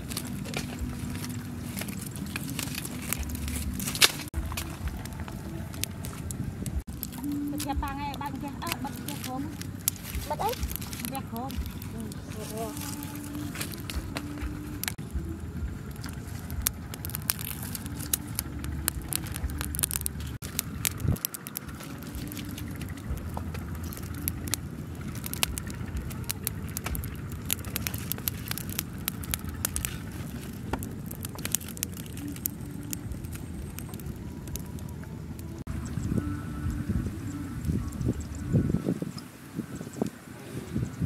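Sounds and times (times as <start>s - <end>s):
fire popping and snapping: 0.0s - 41.0s
low steady fire rumble: 0.0s - 41.0s
wood fire crackling: 0.0s - 41.0s.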